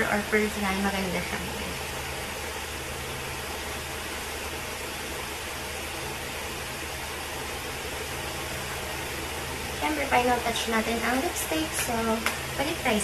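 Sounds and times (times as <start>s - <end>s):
faint low hum: 0.0s - 13.0s
steady background hiss: 0.0s - 13.0s.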